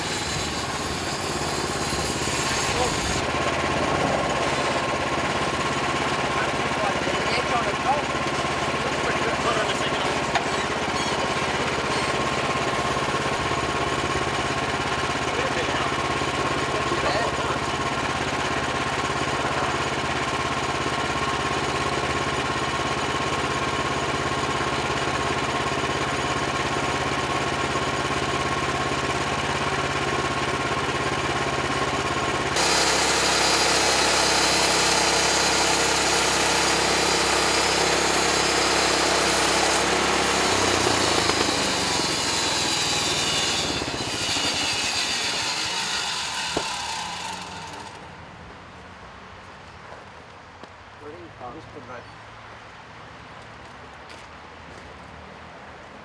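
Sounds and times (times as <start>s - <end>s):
sawmill engine running: 0.0s - 48.6s.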